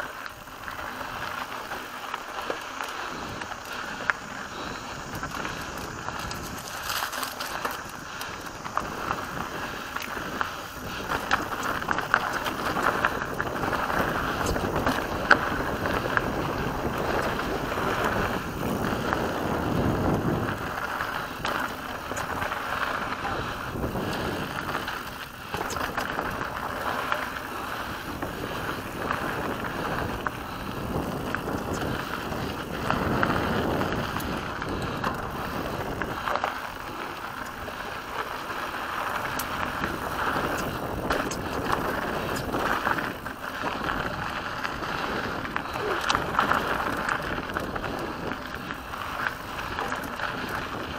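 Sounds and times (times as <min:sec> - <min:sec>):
bike clicking and rattling: 0:00.0 - 0:50.9
bike tyres on gravel: 0:00.0 - 0:50.9
wind on microphone: 0:00.0 - 0:50.9.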